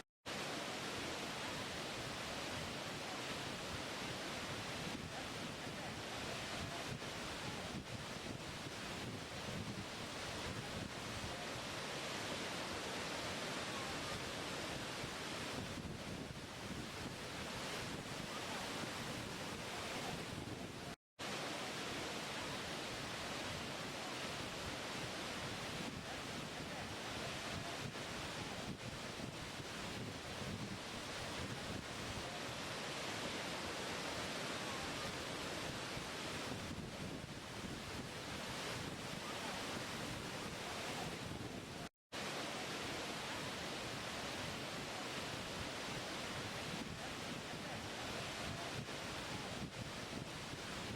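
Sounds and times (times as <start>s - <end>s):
rush of moving water: 0.3s - 50.9s.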